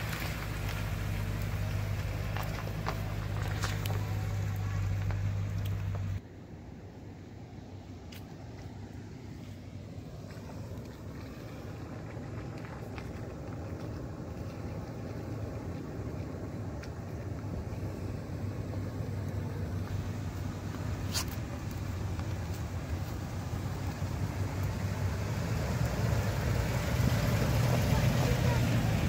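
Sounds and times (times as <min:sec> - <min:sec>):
vehicle engine hum on gravel: 0:00.0 - 0:29.0.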